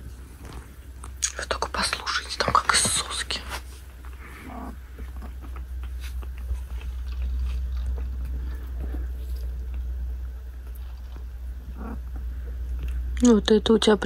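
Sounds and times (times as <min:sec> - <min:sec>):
kittens suckling: 0:00.0 - 0:13.2
steady low hum: 0:00.0 - 0:14.0.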